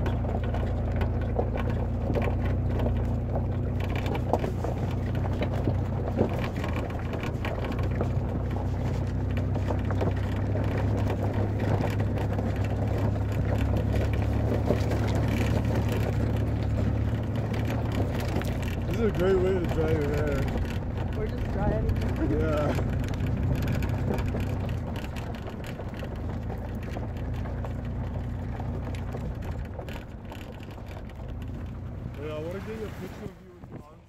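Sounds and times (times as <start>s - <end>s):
low engine drone: 0.0s - 33.8s
tyres on gravel: 0.0s - 34.0s.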